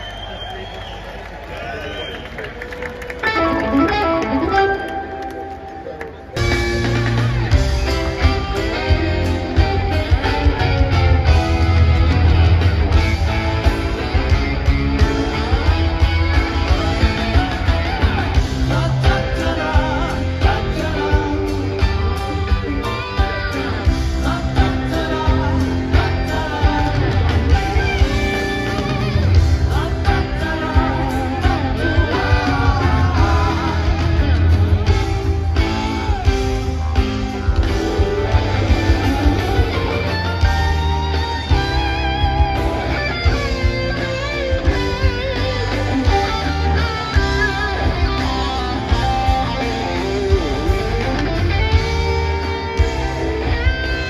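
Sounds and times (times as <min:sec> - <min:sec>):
live rock band playing: 0:02.5 - 0:54.0
steady drum beat: 0:06.4 - 0:54.0.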